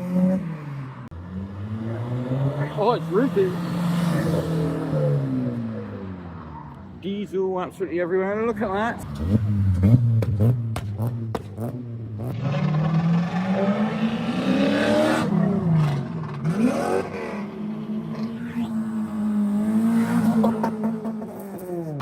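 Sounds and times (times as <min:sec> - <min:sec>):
car engine revving and accelerating: 0:00.0 - 0:06.7, 0:08.9 - 0:22.0.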